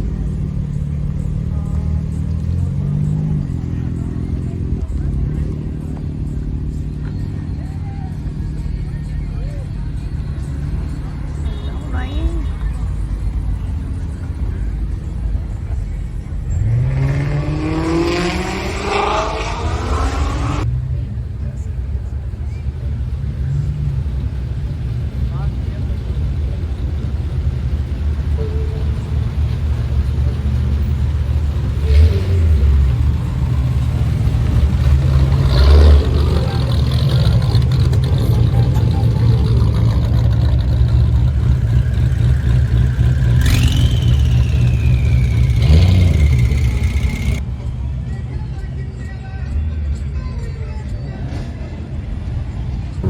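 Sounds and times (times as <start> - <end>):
car engine revving: 0.0 - 47.8.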